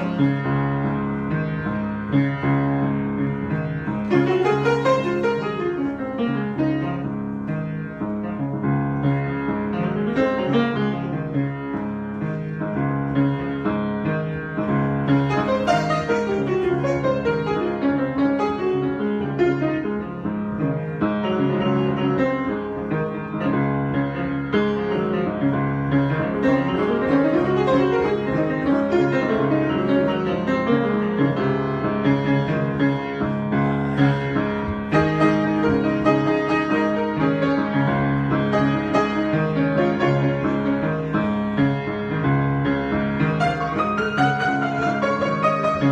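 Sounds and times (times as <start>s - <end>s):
piano improvisation: 0.0s - 45.9s.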